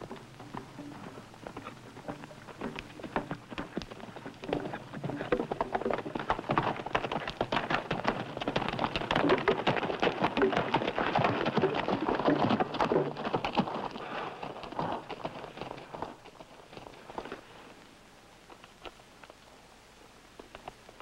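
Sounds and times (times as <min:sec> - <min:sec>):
horse hoofbeats on stony ground: 0:00.0 - 0:19.5.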